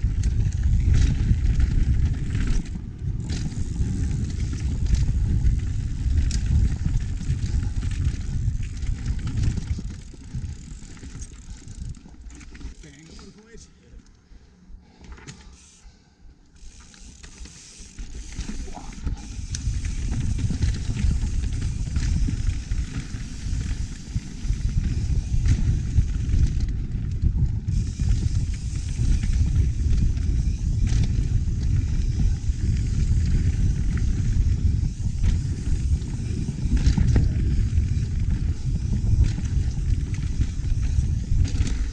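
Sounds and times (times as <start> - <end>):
wind buffeting microphone: 0.0 - 12.3, 17.9 - 41.9
bike tyres rolling over dirt: 0.0 - 13.5, 16.6 - 41.9.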